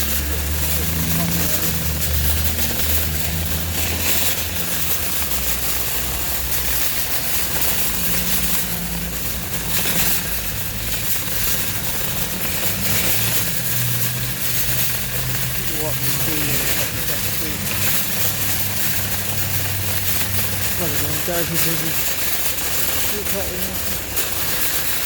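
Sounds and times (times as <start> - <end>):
steady hiss: 0.0 - 25.0
vehicle engine rumbling: 0.0 - 25.0.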